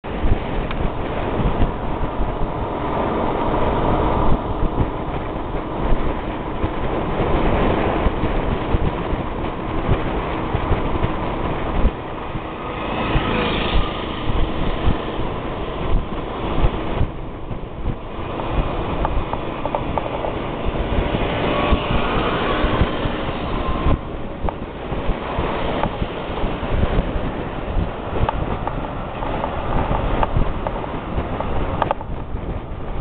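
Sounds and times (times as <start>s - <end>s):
tyres on road: 0.0s - 33.0s
wind buffeting microphone: 0.0s - 33.0s
motorbike engine running: 0.1s - 33.0s.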